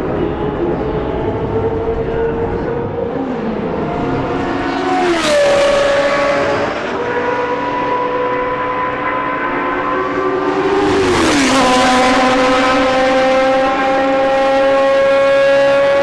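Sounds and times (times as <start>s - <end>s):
race car engines revving: 0.0s - 16.0s
race car passing by: 0.1s - 16.0s.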